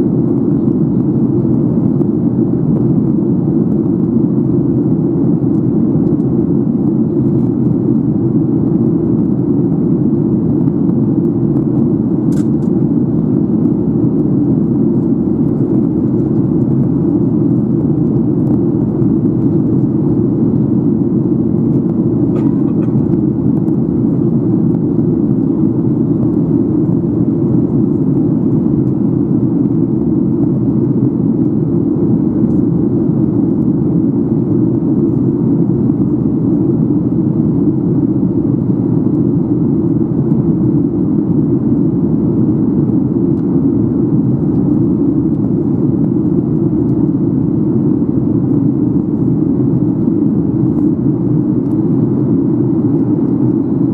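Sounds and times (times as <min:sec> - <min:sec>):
airplane cabin engine rush: 0:00.0 - 0:53.9.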